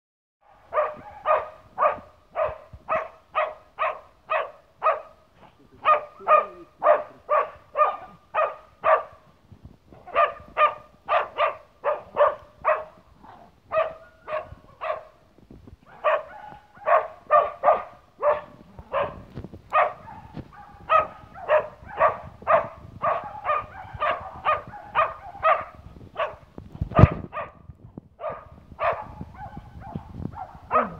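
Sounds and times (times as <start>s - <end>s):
hound barking: 0.4s - 9.3s, 9.9s - 15.2s, 15.8s - 27.6s, 28.2s - 30.9s.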